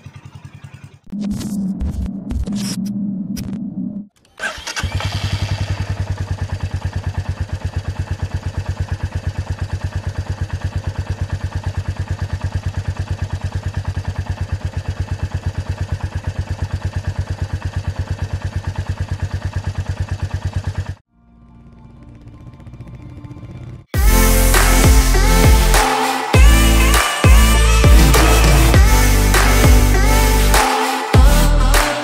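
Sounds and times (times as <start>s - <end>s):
motorcycle exhaust idling: 0.0s - 1.1s, 5.2s - 25.8s, 26.4s - 30.6s, 31.2s - 31.8s.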